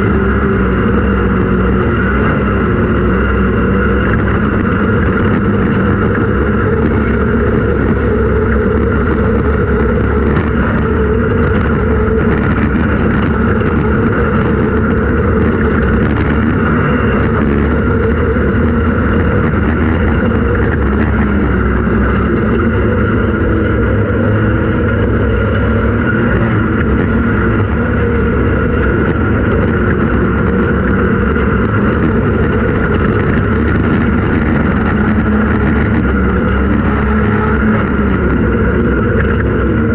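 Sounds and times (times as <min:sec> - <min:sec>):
constant background noise: 0:00.0 - 0:39.9
race vehicle engine running: 0:00.0 - 0:39.9.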